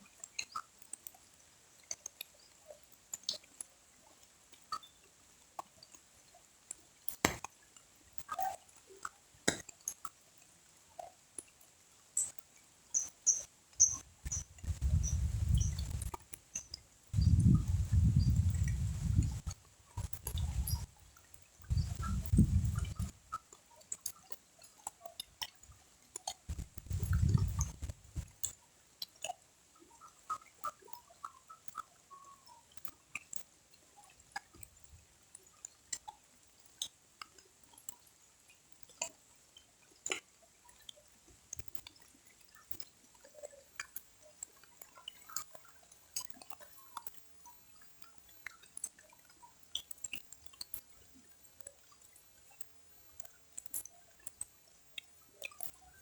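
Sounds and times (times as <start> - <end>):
water drips: 0.0 - 56.0.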